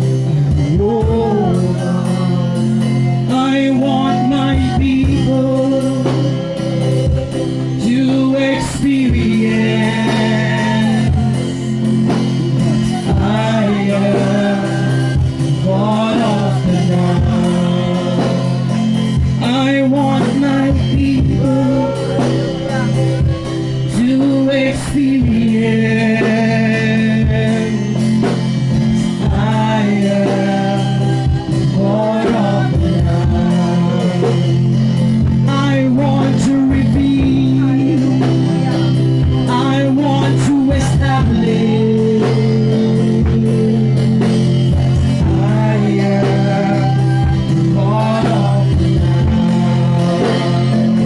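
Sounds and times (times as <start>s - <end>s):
guitar: 0.0s - 51.0s
person singing: 0.0s - 51.0s
steady beat: 0.0s - 51.0s
sustained keyboard chords: 0.0s - 51.0s.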